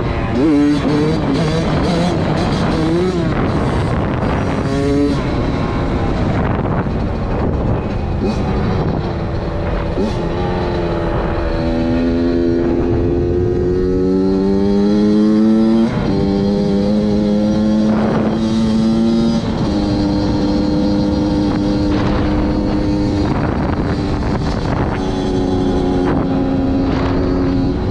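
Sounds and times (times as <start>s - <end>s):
two-stroke motorcycle engine revving: 0.0s - 27.9s.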